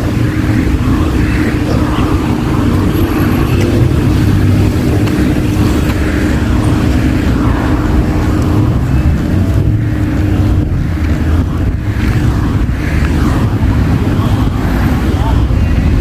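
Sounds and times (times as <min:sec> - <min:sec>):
engine hum: 0:00.0 - 0:16.0
traffic rumble: 0:00.0 - 0:16.0.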